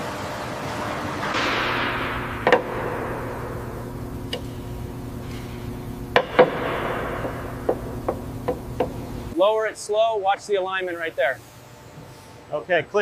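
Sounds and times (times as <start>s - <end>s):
factory machinery humming: 0.0s - 13.0s.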